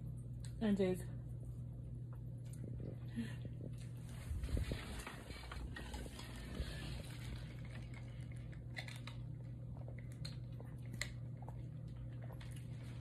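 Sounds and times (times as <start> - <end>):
steady low hum: 0.0 - 13.0
chewing: 2.1 - 13.0.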